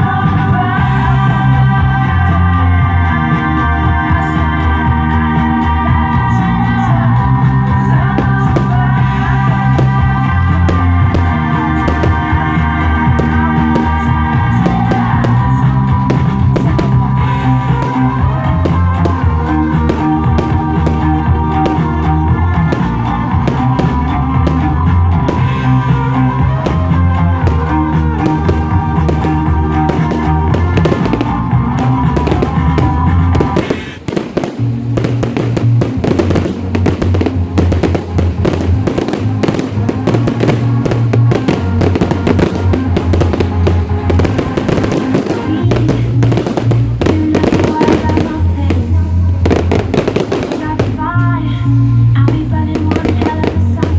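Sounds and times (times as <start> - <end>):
rock music with guitar: 0.0 - 53.9
fireworks banging: 7.0 - 51.4, 52.1 - 53.9.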